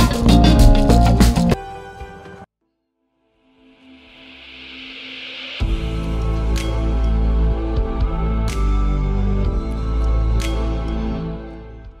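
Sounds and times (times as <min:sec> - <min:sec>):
background music with deep bass: 0:00.0 - 0:01.9, 0:04.3 - 0:12.0.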